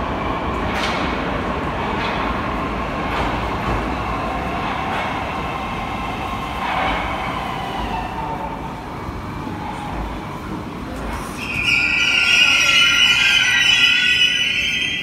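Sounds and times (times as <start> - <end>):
metro train electric whine: 0.0 - 15.0.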